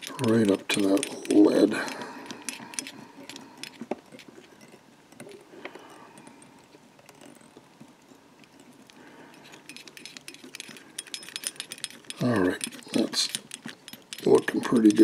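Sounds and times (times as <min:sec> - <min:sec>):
bobbin ticking and thread rustling: 0:00.0 - 0:15.0.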